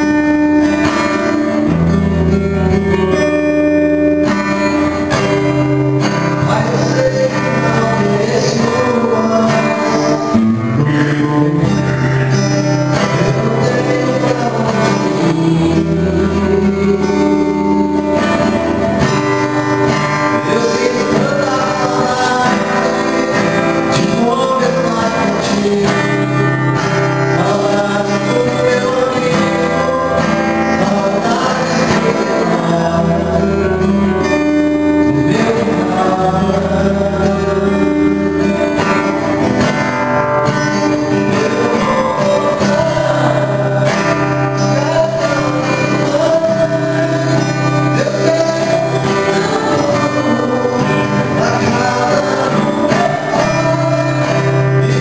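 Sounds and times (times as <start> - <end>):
held bass notes: 0.0 - 55.0
man singing into a microphone: 0.0 - 55.0
strummed acoustic guitar: 0.0 - 55.0.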